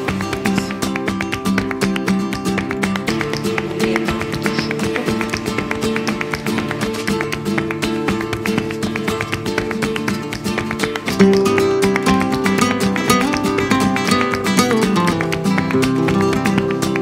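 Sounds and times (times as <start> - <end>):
acoustic guitar plucked notes: 0.0 - 17.0.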